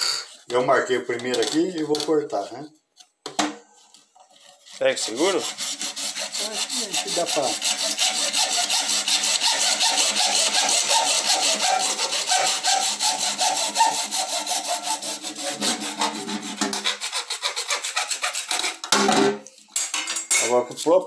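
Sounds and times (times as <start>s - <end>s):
hacksaw cutting plastic pipe: 0.0s - 19.2s.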